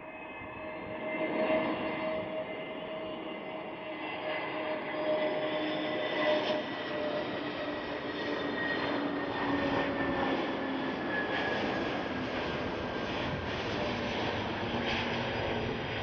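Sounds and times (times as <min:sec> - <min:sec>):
jet engines whining as plane passes: 0:00.0 - 0:16.0.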